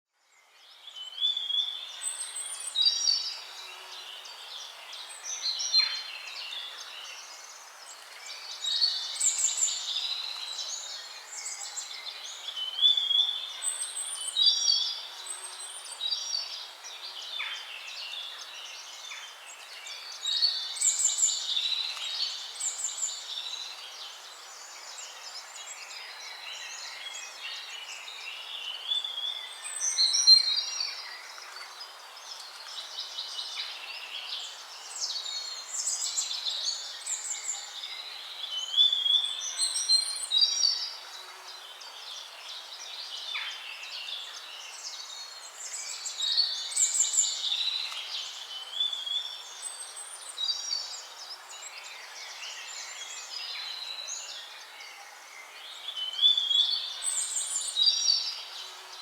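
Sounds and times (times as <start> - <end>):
songbirds singing: 0.2 - 59.0
steady background hiss: 1.8 - 59.0.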